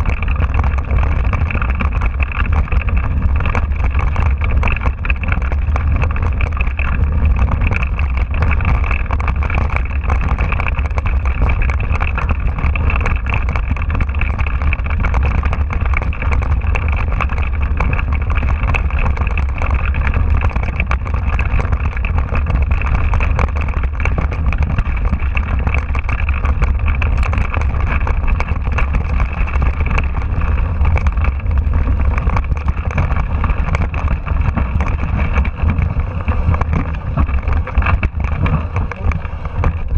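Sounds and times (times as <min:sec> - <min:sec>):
bike rattling over stones: 0:00.0 - 0:39.9
wind rumble on microphone: 0:00.0 - 0:39.9.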